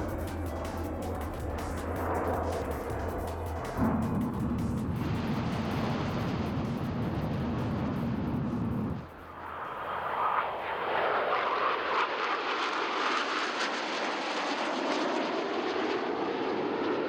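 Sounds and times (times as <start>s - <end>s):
jet aircraft flying overhead: 0.0s - 17.0s.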